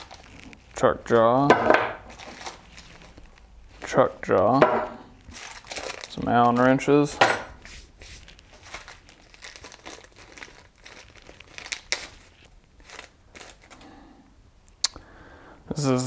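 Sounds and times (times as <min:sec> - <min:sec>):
plastic bag crinkling: 0:00.0 - 0:01.1, 0:02.0 - 0:13.9.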